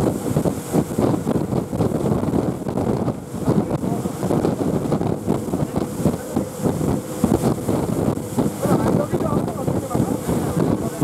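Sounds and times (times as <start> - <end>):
outboard engines droning: 0.0 - 11.0
spray rushing off hull: 0.0 - 11.0
wind buffeting microphone: 0.0 - 11.0.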